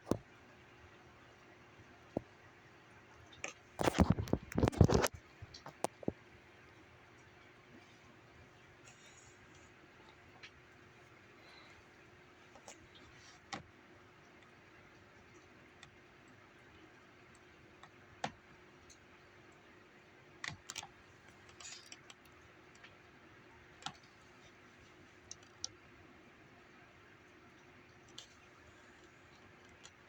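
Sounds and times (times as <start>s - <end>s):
faint hiss and low hum: 0.0s - 30.0s.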